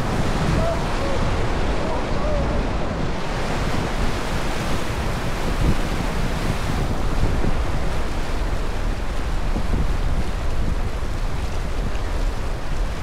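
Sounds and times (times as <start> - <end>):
whitewater rushing and churning: 0.0 - 13.0
wind buffeting microphone: 0.0 - 13.0.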